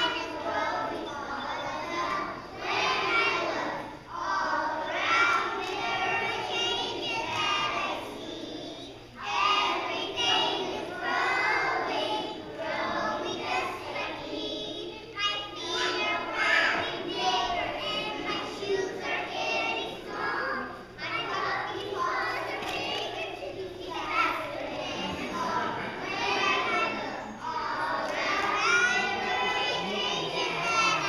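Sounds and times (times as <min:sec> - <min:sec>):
young children singing: 0:00.0 - 0:31.0.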